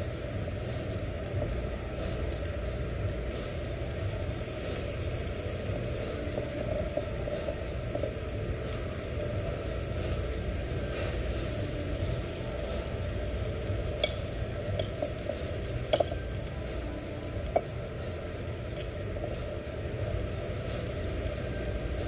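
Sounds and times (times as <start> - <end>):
meat sizzling on grill: 0.0 - 22.0
steady low hum: 0.0 - 22.0
utensils clicking on grill: 0.5 - 22.0.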